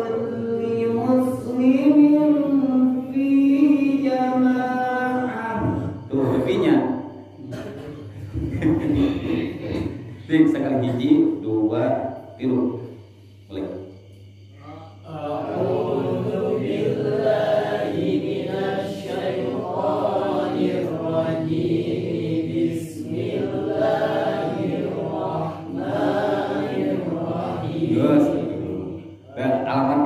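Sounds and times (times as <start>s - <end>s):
group chanting in unison: 0.0s - 11.1s, 14.6s - 30.0s.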